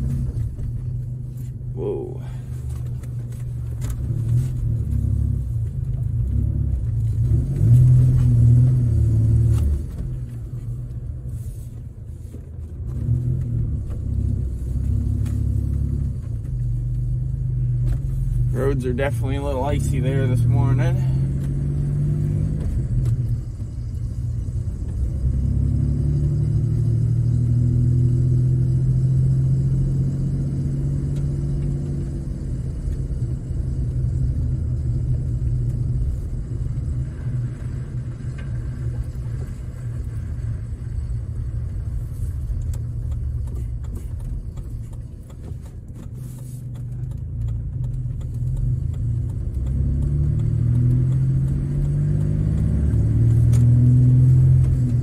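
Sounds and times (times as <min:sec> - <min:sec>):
pickup engine hum: 0:00.0 - 0:55.0
road noise: 0:00.0 - 0:55.0.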